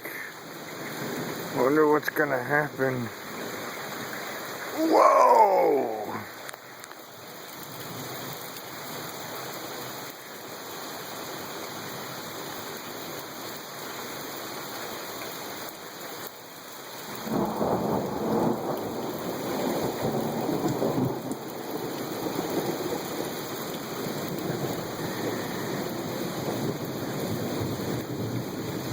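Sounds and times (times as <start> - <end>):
rain hissing: 0.0 - 28.9.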